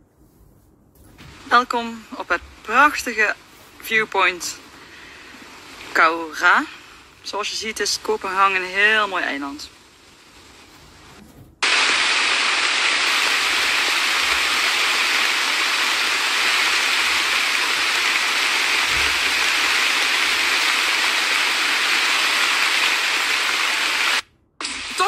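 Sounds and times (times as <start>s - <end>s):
loud steady hiss: 1.1s - 25.0s.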